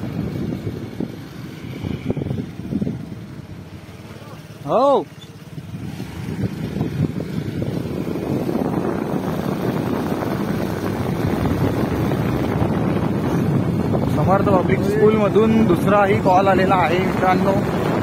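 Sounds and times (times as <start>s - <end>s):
motorcycle engine: 0.0s - 18.0s
wind rushing over microphone: 0.0s - 18.0s.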